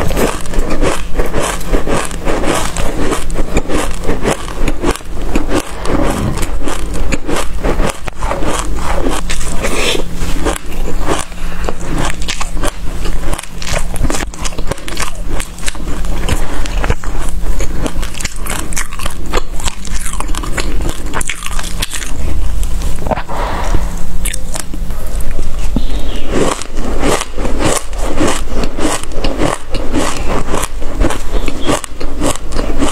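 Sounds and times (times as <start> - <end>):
crunching and chewing seeds: 0.0 - 32.9.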